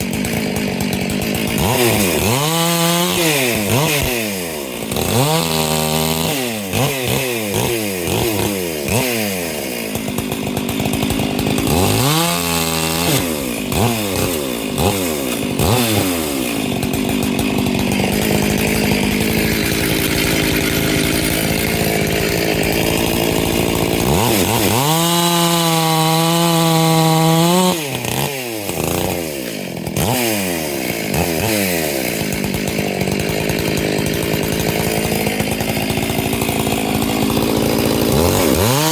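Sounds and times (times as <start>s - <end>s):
chainsaw revving and cutting: 0.0s - 38.9s.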